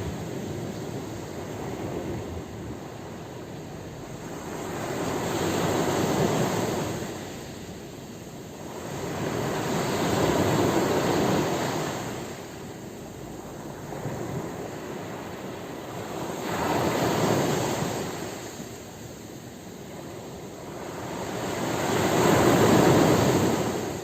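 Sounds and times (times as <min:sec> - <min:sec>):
sea waves breaking: 0:00.0 - 0:19.0, 0:20.0 - 0:24.0.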